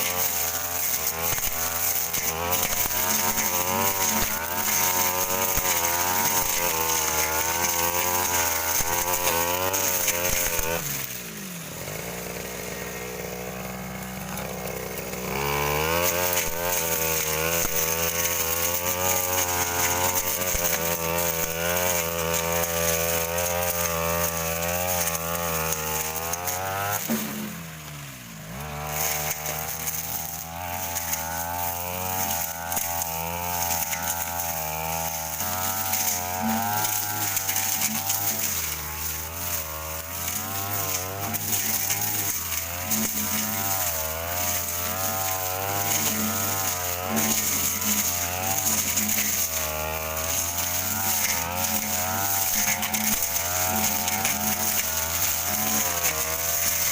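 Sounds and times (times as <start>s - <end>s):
brush cutter engine revving: 0.0s - 56.9s.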